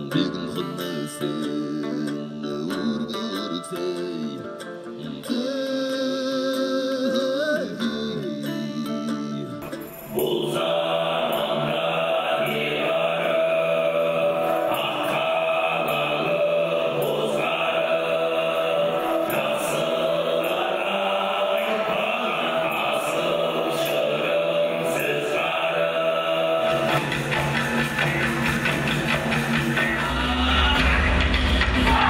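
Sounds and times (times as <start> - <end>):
throat singing with overtone: 0.0 - 32.0.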